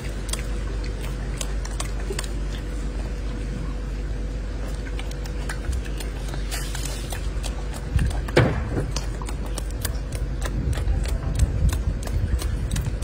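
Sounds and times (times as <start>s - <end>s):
monkey chewing and crunching: 0.0s - 13.0s.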